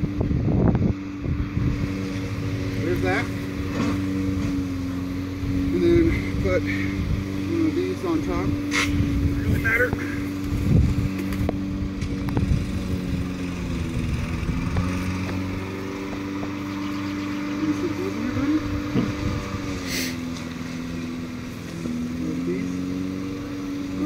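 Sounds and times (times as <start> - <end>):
engine drone: 0.0 - 24.0.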